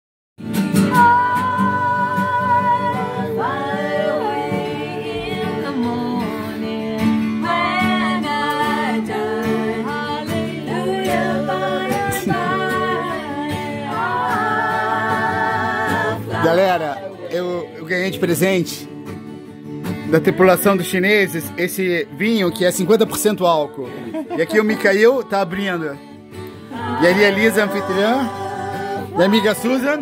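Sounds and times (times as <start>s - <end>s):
strummed acoustic guitars: 0.4s - 30.0s
people singing together: 0.7s - 19.5s, 20.1s - 30.0s.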